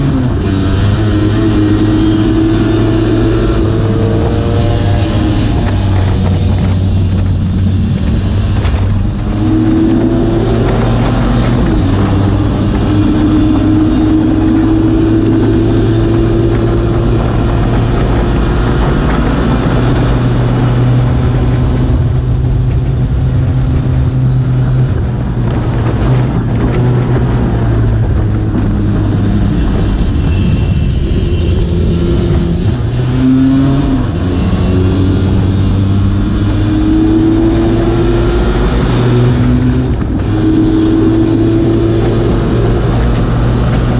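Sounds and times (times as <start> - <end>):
scooter engine at high revs: 0.0 - 43.9
wind and road noise: 0.0 - 43.9.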